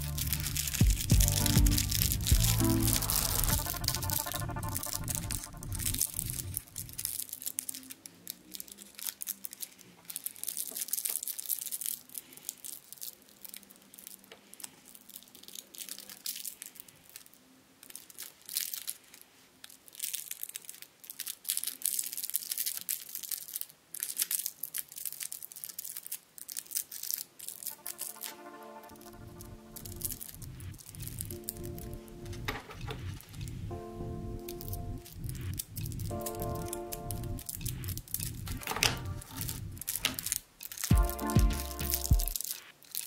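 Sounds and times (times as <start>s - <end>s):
foil wrapper crinkling: 0.0s - 33.6s, 34.5s - 43.0s.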